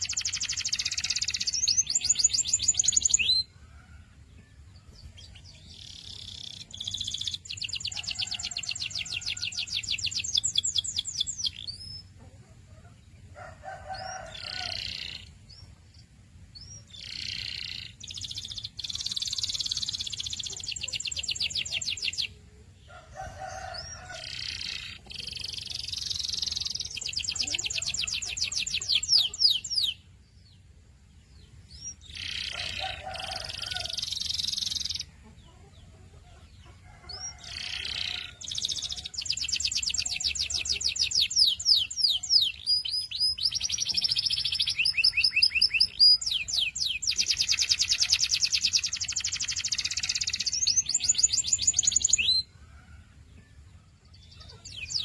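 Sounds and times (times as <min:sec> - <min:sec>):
canary singing trills: 0:00.0 - 0:04.0, 0:04.8 - 0:52.6, 0:54.0 - 0:55.0.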